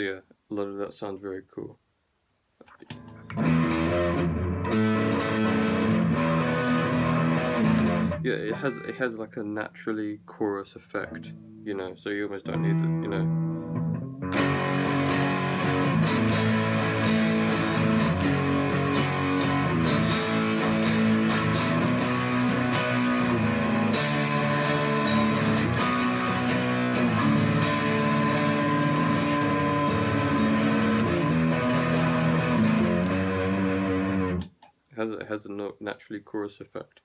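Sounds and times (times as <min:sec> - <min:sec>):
twelve-string electric guitar: 0:02.7 - 0:34.6.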